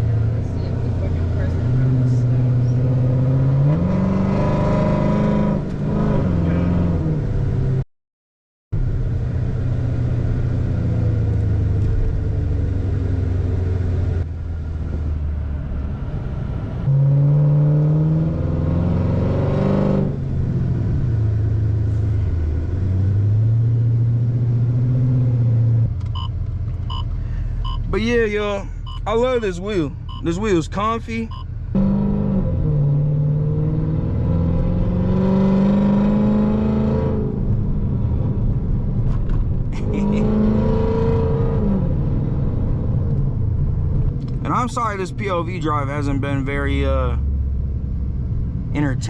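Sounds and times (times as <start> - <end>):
car engine accelerating: 0.0 - 7.8, 8.8 - 49.0.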